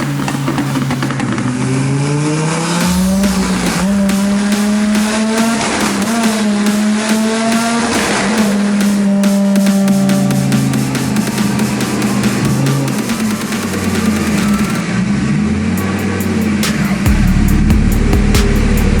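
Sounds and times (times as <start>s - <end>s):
car engine revving hard: 0.0s - 19.0s.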